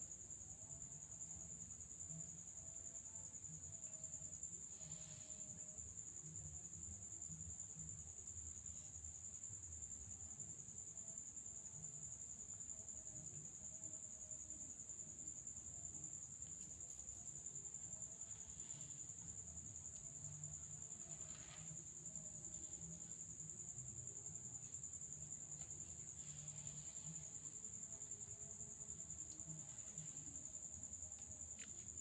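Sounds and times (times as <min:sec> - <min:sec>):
cricket trilling: 0:00.2 - 0:32.0.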